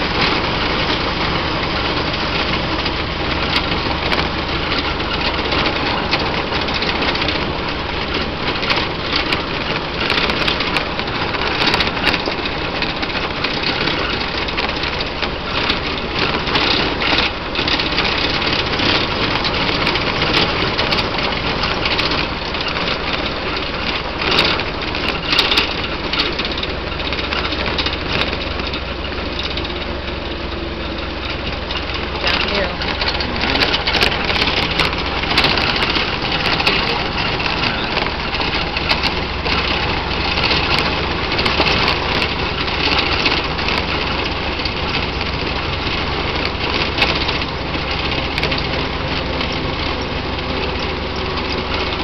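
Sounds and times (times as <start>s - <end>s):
car engine running: 0.0s - 52.0s
short knocks and clatters: 0.0s - 52.0s
tyre noise on gravel road: 0.0s - 52.0s.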